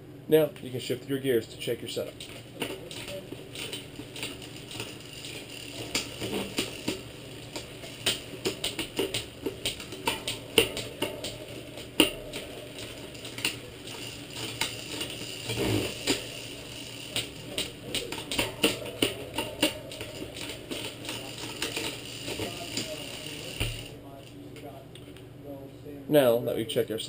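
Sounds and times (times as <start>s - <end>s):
bicycle chain clicking and clattering: 1.6s - 24.0s.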